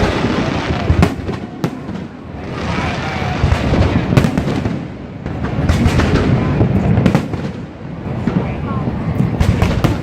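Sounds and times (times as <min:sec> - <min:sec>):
fireworks rumble and crackle: 0:00.0 - 0:10.0
sharp firework bangs: 0:00.0 - 0:10.0.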